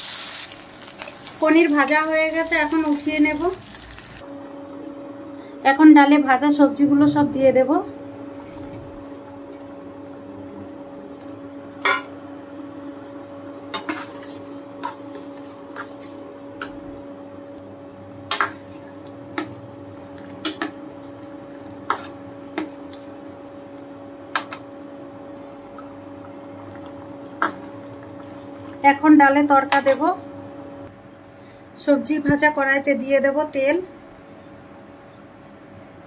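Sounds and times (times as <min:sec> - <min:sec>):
steady hum: 0:01.4 - 0:36.0.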